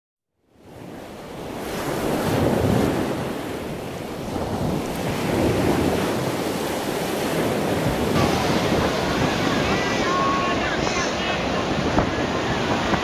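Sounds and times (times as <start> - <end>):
surf breaking on beach: 0.6 - 13.0
wind buffeting microphone: 0.6 - 13.0.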